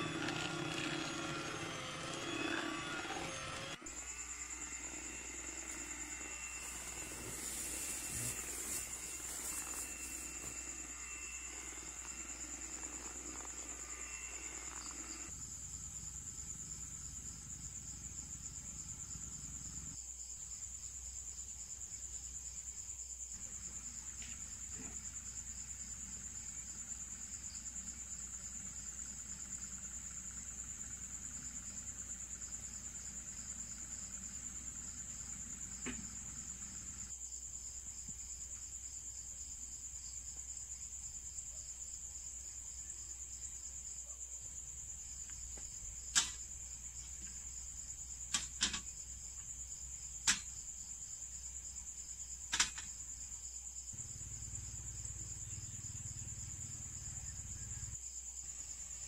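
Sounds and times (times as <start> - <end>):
cricket trilling: 0.0 - 59.0.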